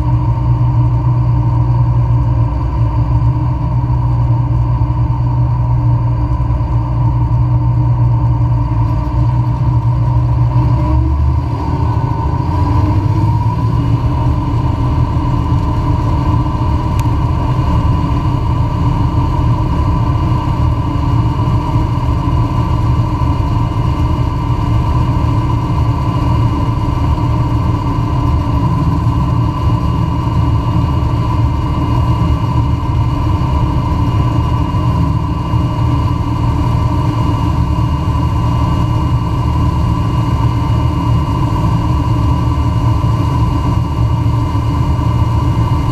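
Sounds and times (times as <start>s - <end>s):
combine harvester droning: 0.0s - 45.9s
machinery whine: 0.0s - 45.9s.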